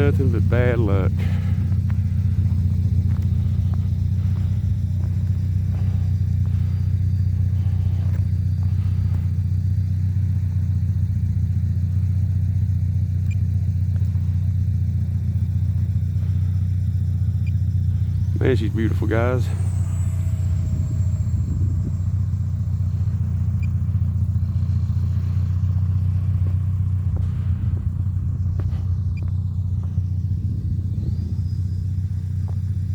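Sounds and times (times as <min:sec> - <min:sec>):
low engine hum: 0:00.0 - 0:32.9.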